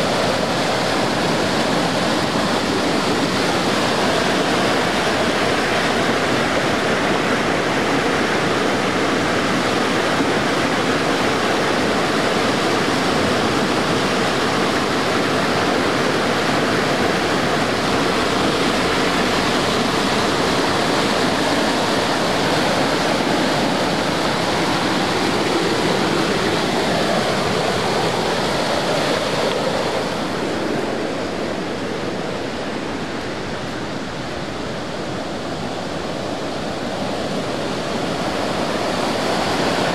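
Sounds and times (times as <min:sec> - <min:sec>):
floodwater rushing over boulders: 0:00.0 - 0:39.9.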